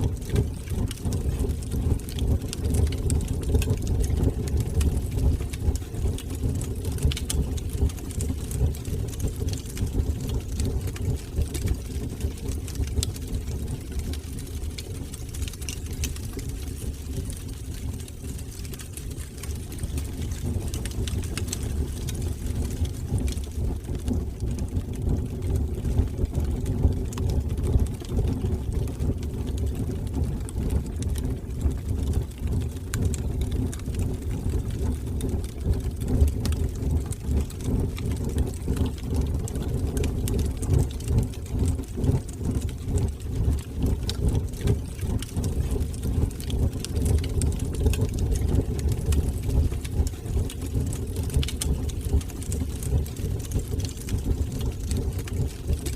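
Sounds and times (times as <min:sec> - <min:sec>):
fire flames rumbling: 0:00.0 - 0:55.9
wood fire crackling: 0:00.0 - 0:55.9.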